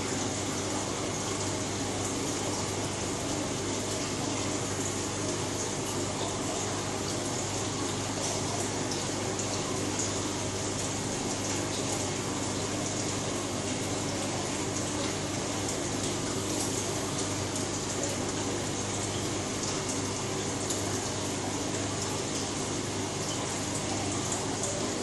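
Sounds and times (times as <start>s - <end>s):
water trickling through aquarium filter: 0.0s - 25.0s.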